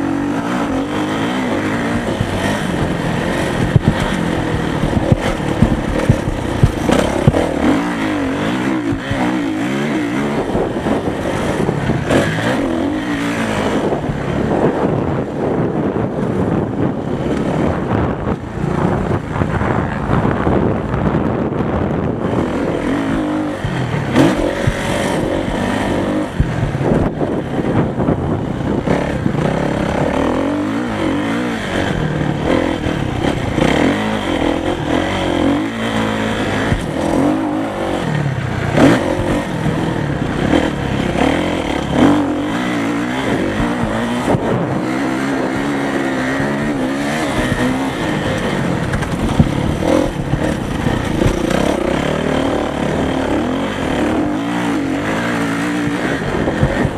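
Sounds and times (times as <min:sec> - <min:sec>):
motocross motorcycle engines revving: 0:00.0 - 0:56.9.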